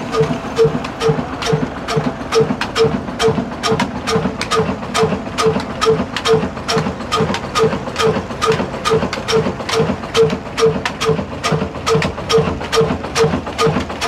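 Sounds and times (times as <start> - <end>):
diesel engine thumping: 0.0 - 14.0
sharp engine clicks: 0.0 - 14.0.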